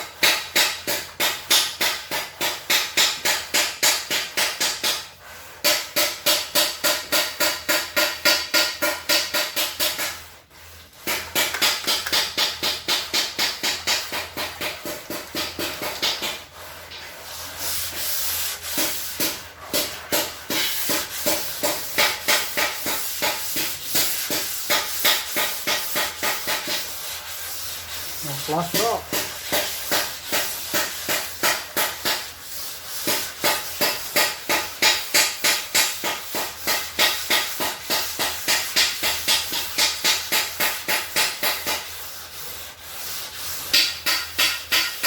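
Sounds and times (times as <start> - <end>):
sandpaper rubbing on metal: 0.1 - 45.0.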